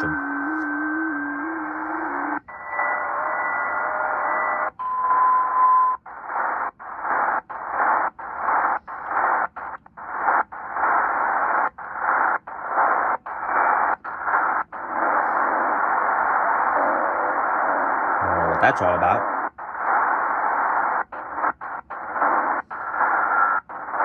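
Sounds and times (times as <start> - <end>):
radio muting chuffs: 0.0 - 2.4, 6.1 - 24.0
radio static hiss: 0.0 - 2.4, 6.1 - 24.0
steady radio tones: 0.0 - 4.7, 5.5 - 24.0.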